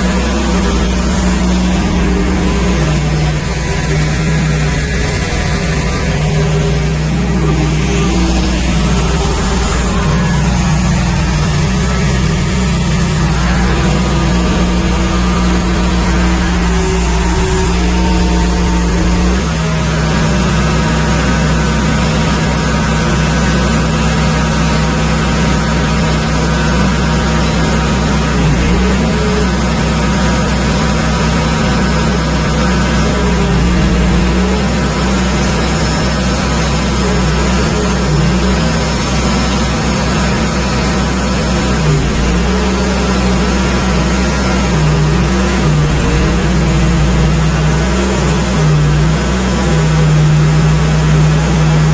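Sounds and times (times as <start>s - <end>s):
bandsaw sawmill sawing log: 0.0s - 51.9s.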